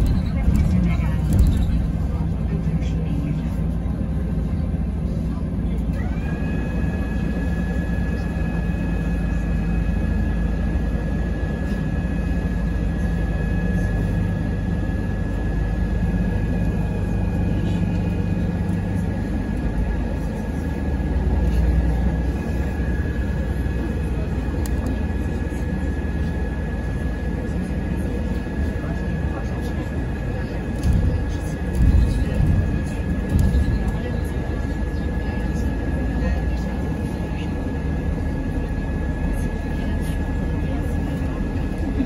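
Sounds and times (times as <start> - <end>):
bus drivetrain and road rumble: 0.0 - 42.0.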